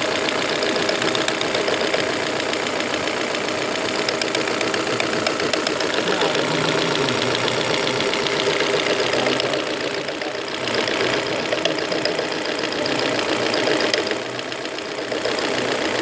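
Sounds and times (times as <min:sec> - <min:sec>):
car engine idling: 0:00.0 - 0:16.0
rapid engine ticking: 0:00.0 - 0:16.0.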